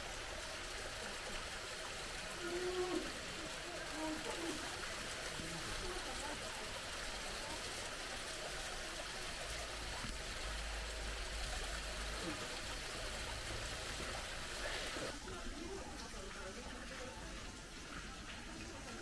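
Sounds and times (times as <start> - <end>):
rushing water: 0.0 - 19.0
faint voices: 1.7 - 10.5, 11.7 - 19.0.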